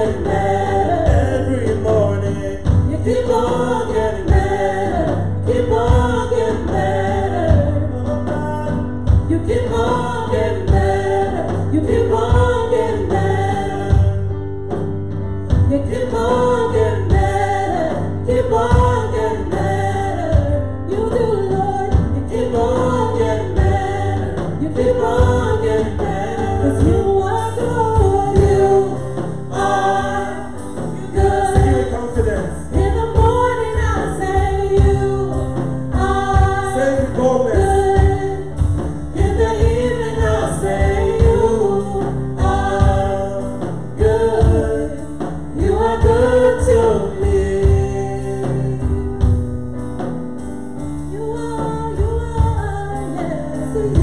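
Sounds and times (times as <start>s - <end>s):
drum kit steady beat: 0.0s - 54.0s
group singing gospel song: 0.0s - 54.0s
keyboard: 0.0s - 54.0s.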